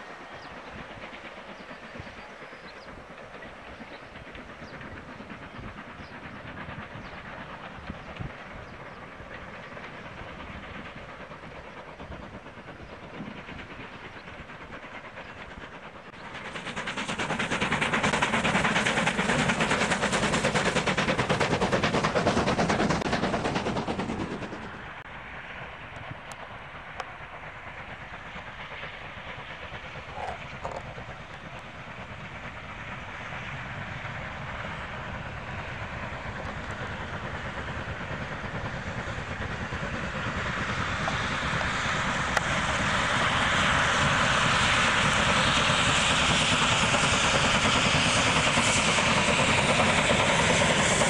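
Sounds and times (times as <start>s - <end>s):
steam locomotive exhaust: 0.0s - 51.0s.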